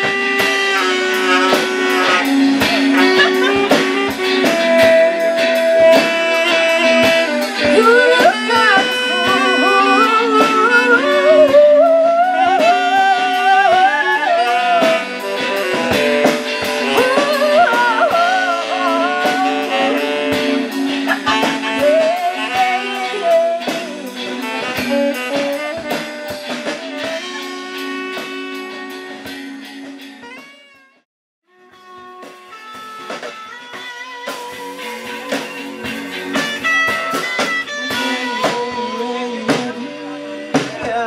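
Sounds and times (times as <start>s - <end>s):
live band playing: 0.0s - 41.0s
saxophone melody: 0.0s - 41.0s.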